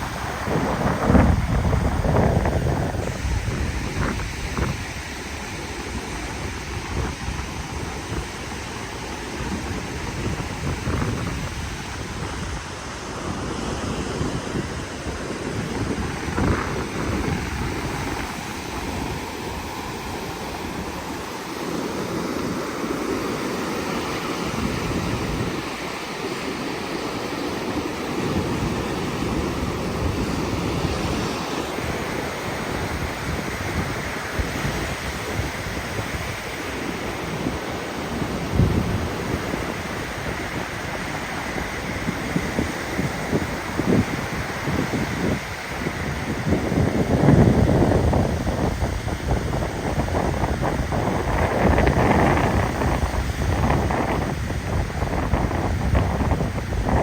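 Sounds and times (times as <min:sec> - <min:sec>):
sea water washing: 0:00.0 - 0:57.0
wind buffeting microphone: 0:00.0 - 0:57.0.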